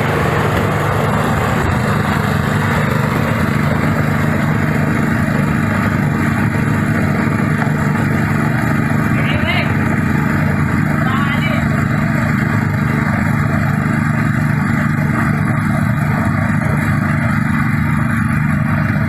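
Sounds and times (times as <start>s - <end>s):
threshing machine drone: 0.0s - 19.0s.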